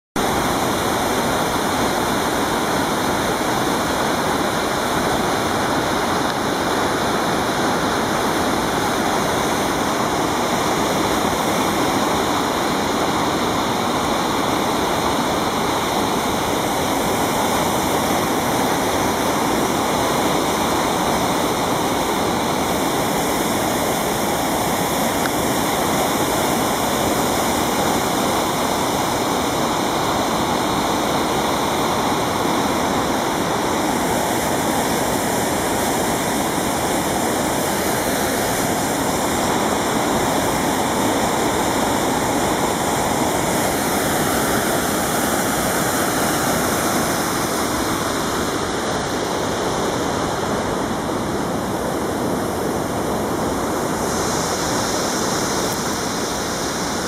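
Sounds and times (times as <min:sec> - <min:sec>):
waterfall pouring into pool: 0:00.2 - 0:49.6
fast-flowing river: 0:00.2 - 0:57.0.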